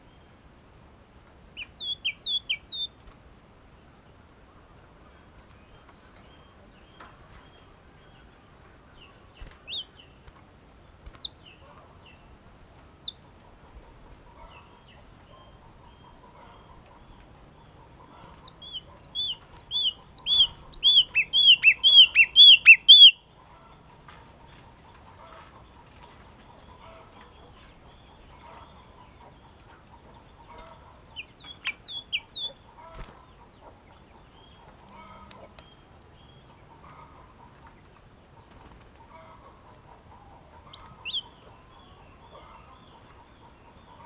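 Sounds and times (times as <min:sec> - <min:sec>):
bird chirping: 0:01.5 - 0:03.0, 0:05.1 - 0:44.0.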